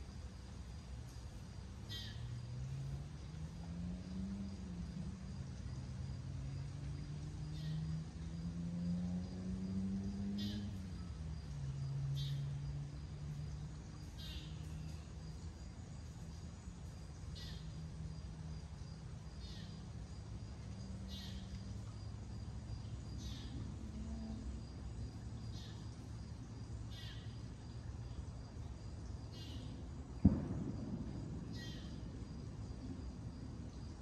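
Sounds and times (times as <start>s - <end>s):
distant engine droning: 0.1s - 34.0s.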